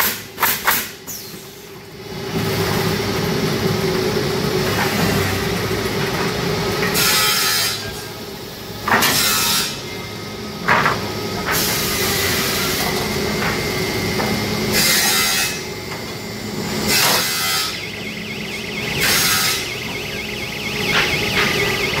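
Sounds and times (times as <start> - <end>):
machine hum: 1.6 - 22.0.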